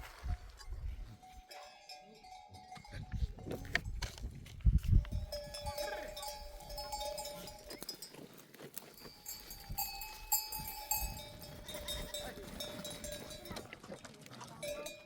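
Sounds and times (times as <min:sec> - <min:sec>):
sheep bells clanking: 0:00.5 - 0:15.0.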